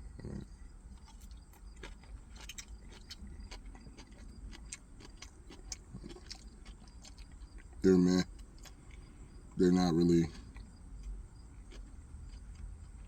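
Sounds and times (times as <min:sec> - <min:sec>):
person chewing vegetables: 0:00.1 - 0:13.0.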